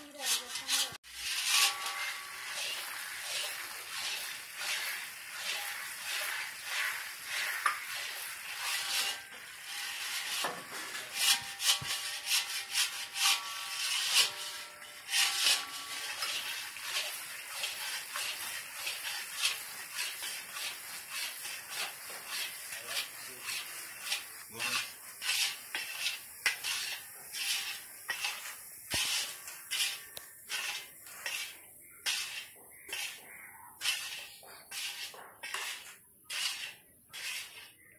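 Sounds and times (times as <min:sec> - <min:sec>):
metal spatula scraping pan: 0:00.0 - 0:37.9.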